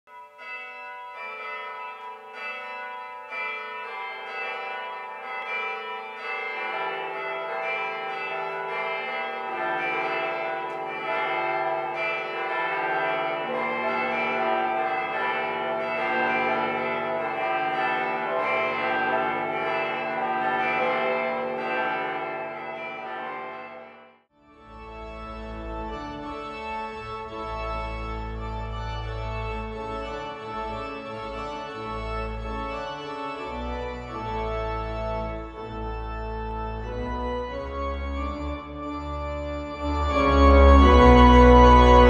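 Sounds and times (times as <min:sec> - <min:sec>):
church bells ringing in a peal: 0:00.1 - 0:42.0.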